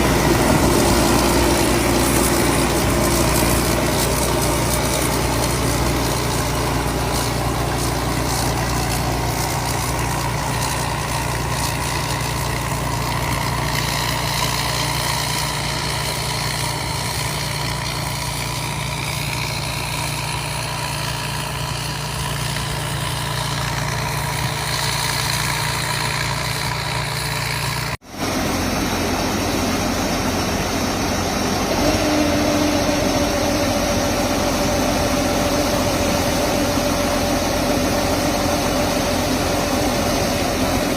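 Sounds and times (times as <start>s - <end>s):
combine harvester running: 0.0s - 40.9s
steady whine: 0.0s - 40.9s.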